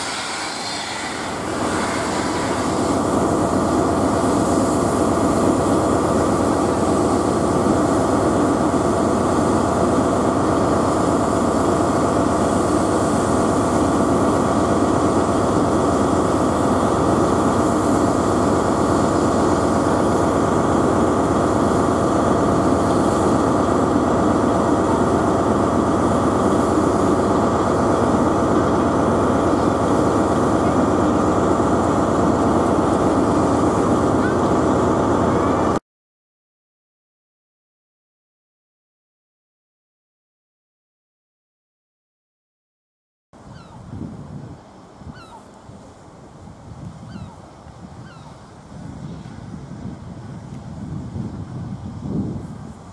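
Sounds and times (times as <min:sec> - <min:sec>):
train running noise: 0:00.0 - 0:35.8, 0:43.4 - 0:52.9.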